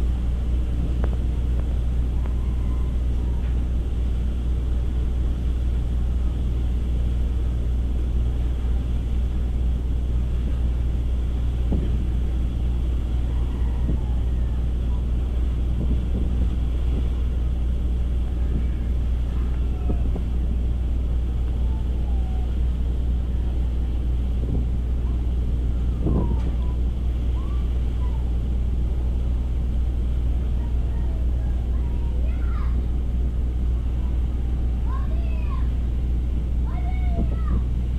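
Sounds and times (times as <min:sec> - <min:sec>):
low engine drone: 0:00.0 - 0:37.9.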